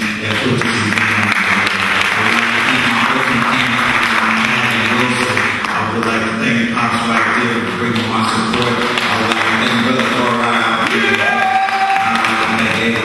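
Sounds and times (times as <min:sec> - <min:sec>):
audience applause: 0:00.0 - 0:06.3, 0:07.0 - 0:13.0.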